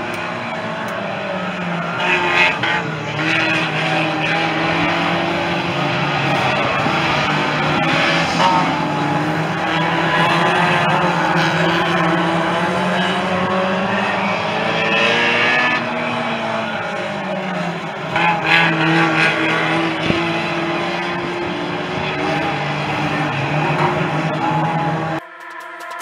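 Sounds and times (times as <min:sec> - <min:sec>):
racing car engines: 0:00.0 - 0:26.0.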